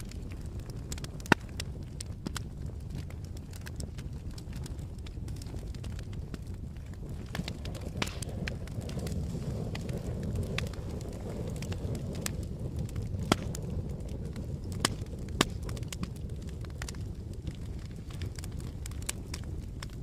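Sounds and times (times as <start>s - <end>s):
burning wood crackling and popping: 0.0s - 20.0s
campfire burning rumble: 0.0s - 20.0s.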